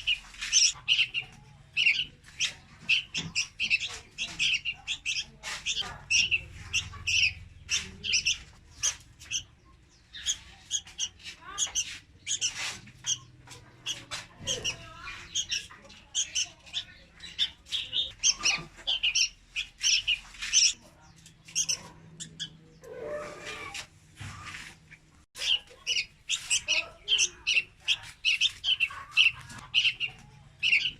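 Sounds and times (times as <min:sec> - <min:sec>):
bird high chirps: 0:00.0 - 0:23.8, 0:24.9 - 0:30.9
low rough bird sound: 0:00.0 - 0:30.9.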